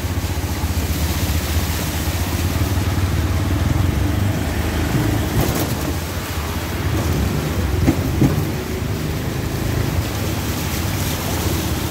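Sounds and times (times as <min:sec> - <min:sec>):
road noise: 0:00.0 - 0:11.9.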